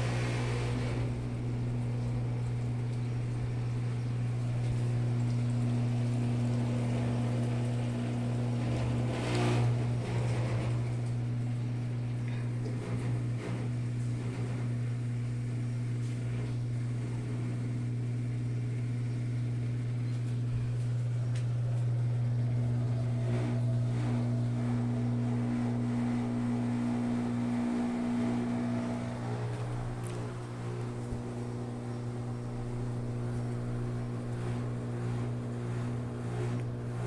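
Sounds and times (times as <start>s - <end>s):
washing machine humming: 0.0s - 37.0s.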